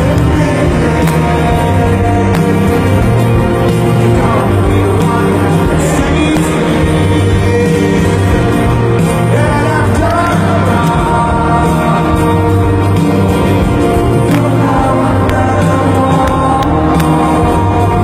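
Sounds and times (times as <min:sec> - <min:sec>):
live rock band playing: 0:00.0 - 0:18.0
sung vocals: 0:00.0 - 0:18.0.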